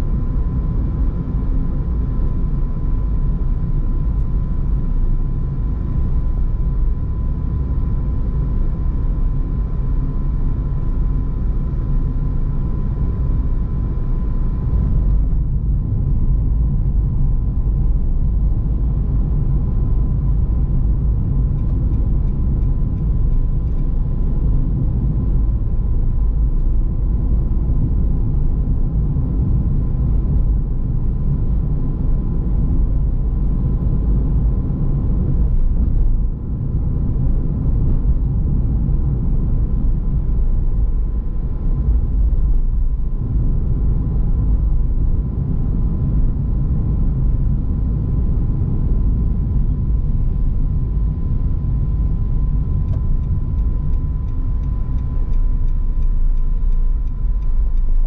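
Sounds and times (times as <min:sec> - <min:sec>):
car tyres and engine rumble: 0:00.0 - 0:58.0
faint steady whine: 0:00.0 - 0:58.0.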